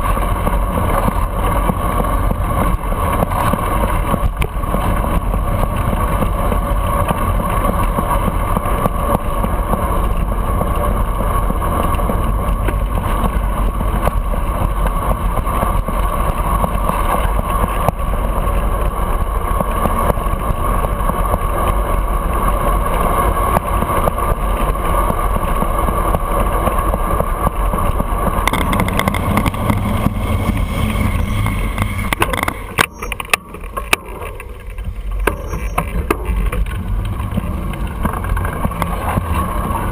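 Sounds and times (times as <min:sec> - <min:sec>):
road rumble: 0:00.0 - 0:39.9
wind rush on microphone: 0:00.0 - 0:39.9.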